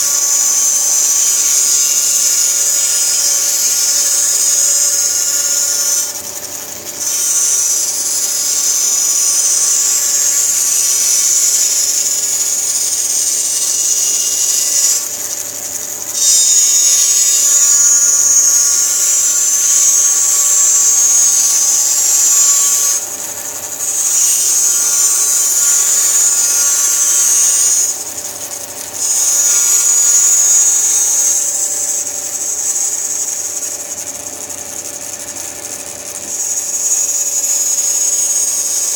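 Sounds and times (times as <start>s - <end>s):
bandsaw motor running: 0.0s - 38.9s.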